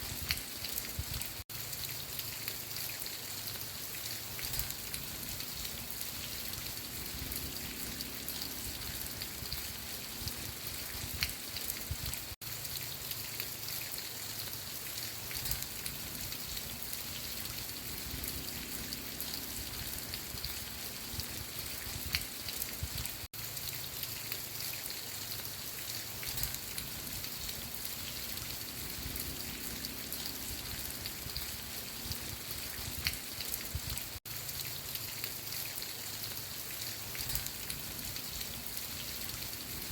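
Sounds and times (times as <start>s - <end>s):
raindrops ticking: 0.0s - 39.9s
steady rain falling: 0.0s - 39.9s.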